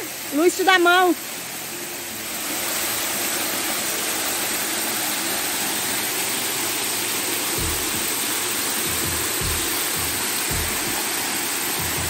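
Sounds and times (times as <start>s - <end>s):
waterfall rushing onto rocks: 0.0s - 12.0s.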